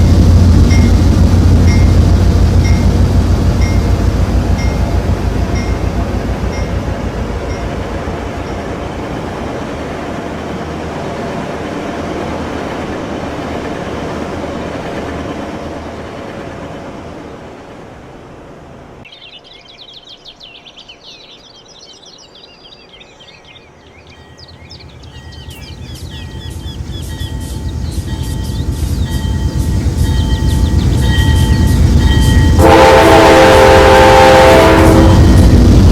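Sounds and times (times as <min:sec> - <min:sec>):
train rumbling past: 0:00.0 - 0:21.5, 0:22.2 - 0:35.9
birds chirping: 0:01.7 - 0:17.8, 0:18.4 - 0:34.6.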